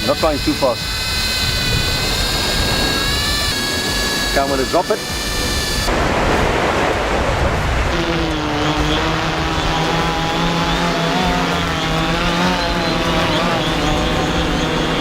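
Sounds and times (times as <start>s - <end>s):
drone propellers humming: 0.0s - 15.0s
wind noise: 0.0s - 15.0s.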